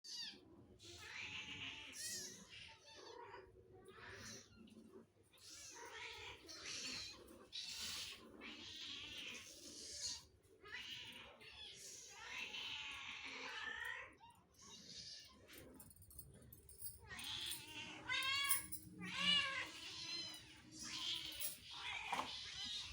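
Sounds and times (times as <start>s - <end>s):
cats meowing: 0.0s - 15.8s, 17.0s - 22.9s.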